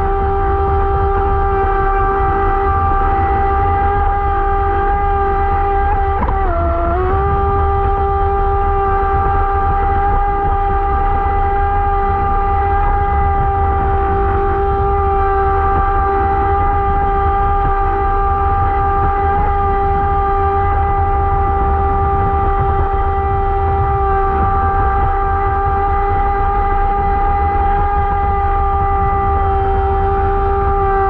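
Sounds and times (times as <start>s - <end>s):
electric boat motor whine: 0.0s - 31.0s.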